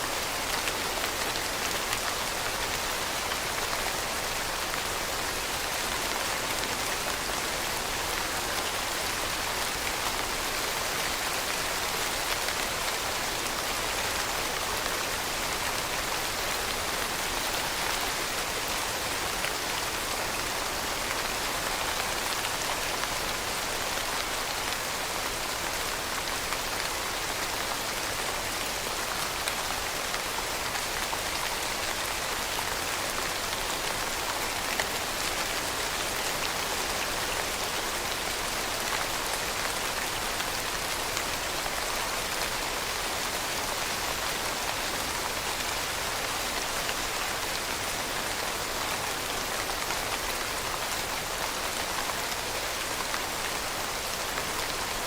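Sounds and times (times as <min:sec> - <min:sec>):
rain pattering: 0:00.1 - 0:55.0.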